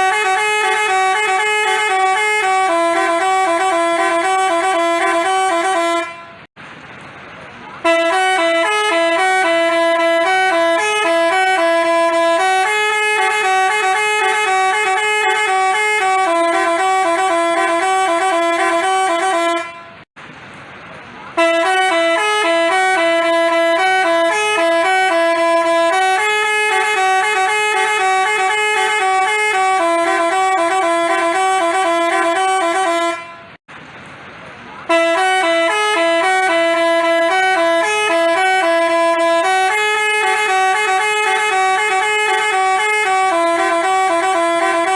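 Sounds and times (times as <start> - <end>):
multi-tone bus horn melody: 0.0 - 6.5, 7.7 - 20.1, 21.3 - 33.6, 34.8 - 44.9.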